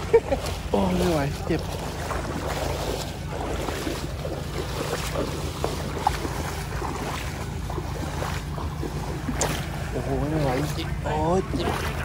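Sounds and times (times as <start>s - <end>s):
feet sloshing through water: 0.0s - 12.0s
low rumble: 0.0s - 12.0s.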